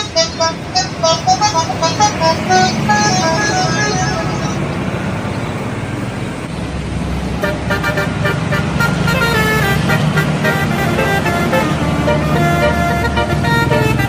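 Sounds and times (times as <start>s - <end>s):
multi-tone bus horn tune: 0.0s - 4.8s, 7.4s - 14.0s
bus engine hum: 0.0s - 14.0s.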